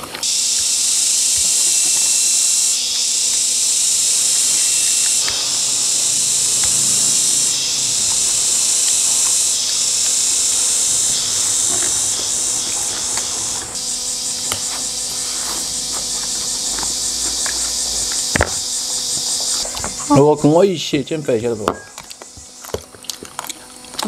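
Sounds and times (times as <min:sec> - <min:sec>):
high-pitched insect buzzing: 0:00.0 - 0:20.8.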